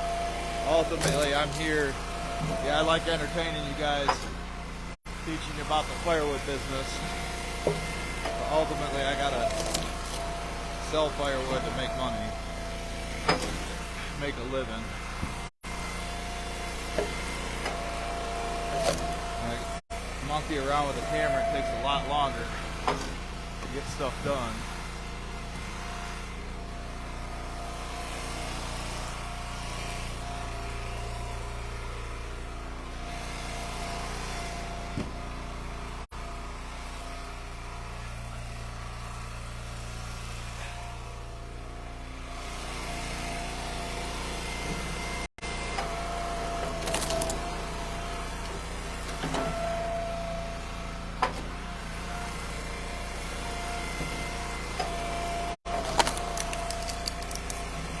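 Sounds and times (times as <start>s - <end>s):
wood splitter engine running: 0.0s - 58.0s.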